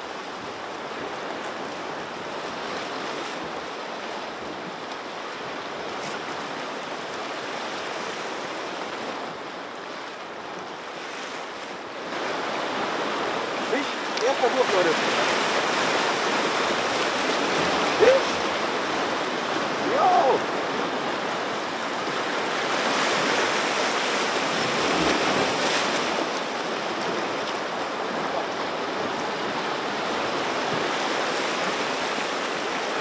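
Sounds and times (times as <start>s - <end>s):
waves splashing over rocks: 0.0s - 33.0s.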